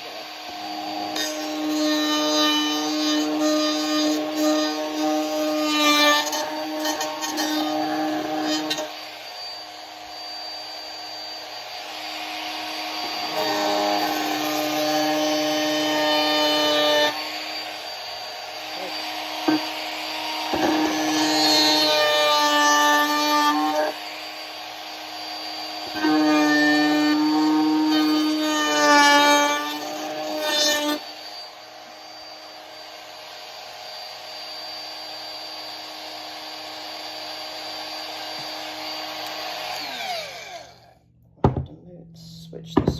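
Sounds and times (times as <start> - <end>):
power tool motor humming: 0.0 - 41.0.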